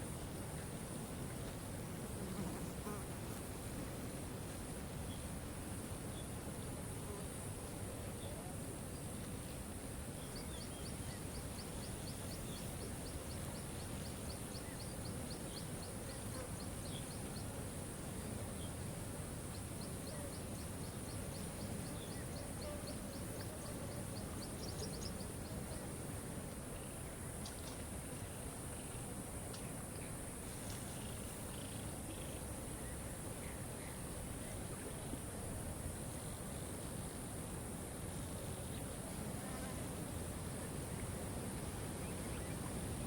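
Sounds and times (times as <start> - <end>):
steady high hiss: 0.0 - 43.0.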